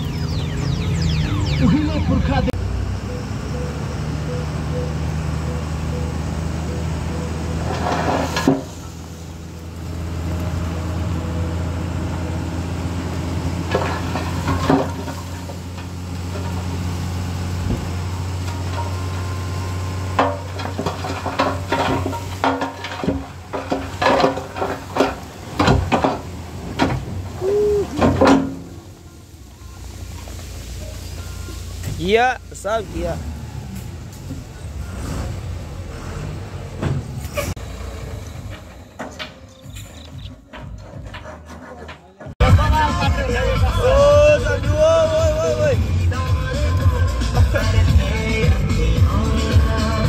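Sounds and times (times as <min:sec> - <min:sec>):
diesel engine running: 0:00.0 - 0:41.4, 0:42.4 - 0:50.0.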